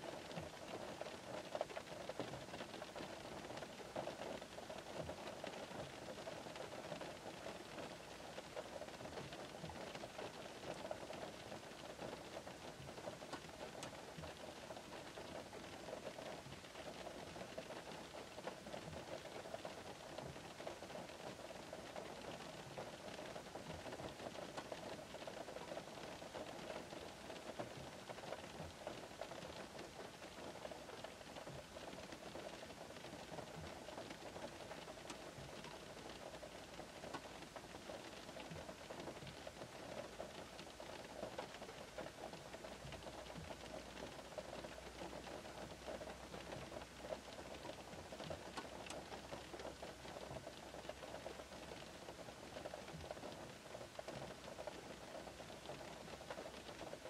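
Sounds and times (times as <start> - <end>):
light rain pattering on car roof: 0.0 - 57.0.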